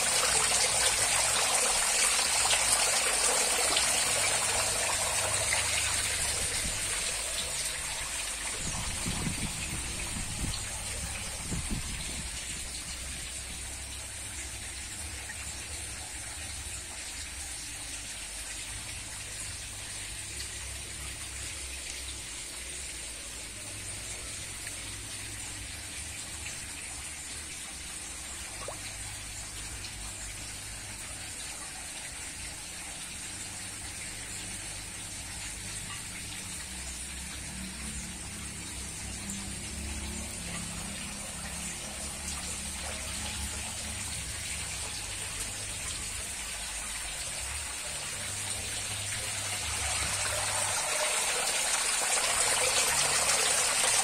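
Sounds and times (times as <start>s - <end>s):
water gushing: 0.0s - 54.0s.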